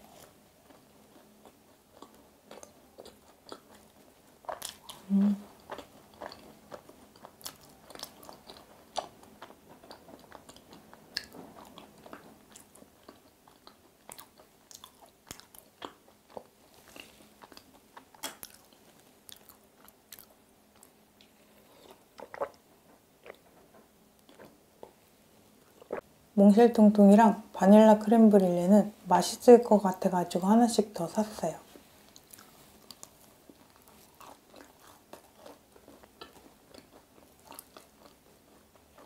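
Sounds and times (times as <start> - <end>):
mouth chewing soft food: 0.1 - 26.1, 31.7 - 39.0.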